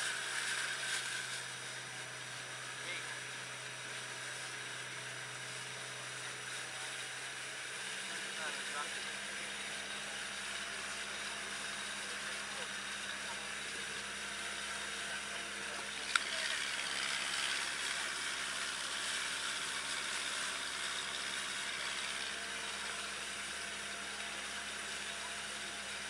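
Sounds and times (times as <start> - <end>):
boat engine drone: 0.0 - 26.0.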